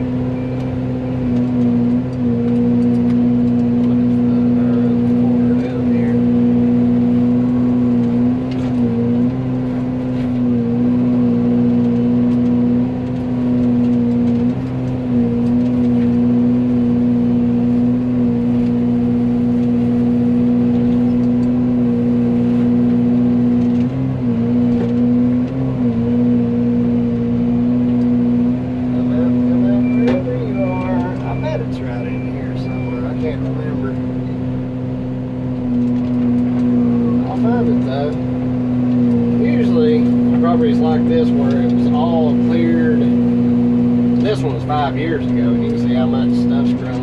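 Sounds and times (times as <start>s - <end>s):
excavator mulcher droning: 0.0s - 47.0s.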